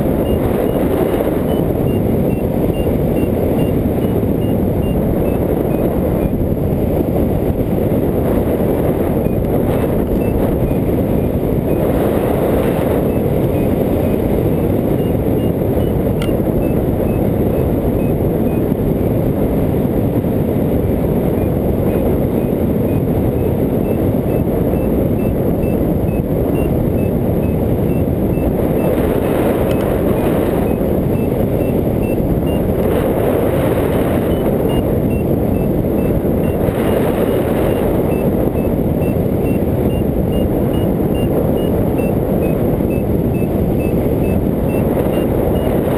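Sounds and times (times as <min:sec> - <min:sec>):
variometer beeping: 0:00.0 - 0:45.9
wind rushing over microphone: 0:00.0 - 0:45.9.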